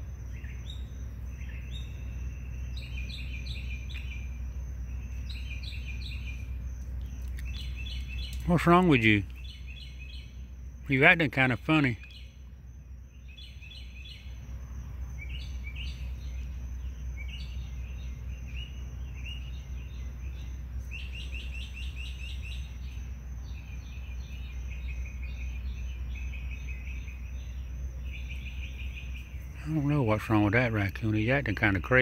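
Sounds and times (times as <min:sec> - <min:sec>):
high chirping at night: 0:00.0 - 0:32.0
steady low hum: 0:00.0 - 0:32.0.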